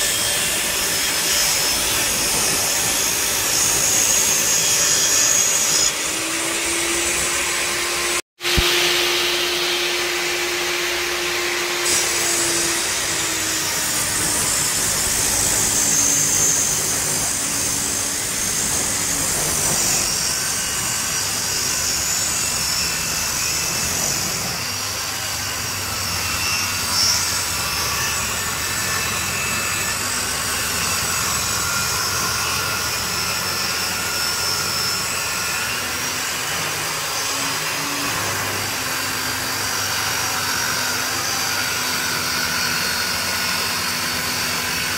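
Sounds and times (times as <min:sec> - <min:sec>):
saw motor hum: 0:00.0 - 0:44.9
table saw cutting wood: 0:00.0 - 0:44.9.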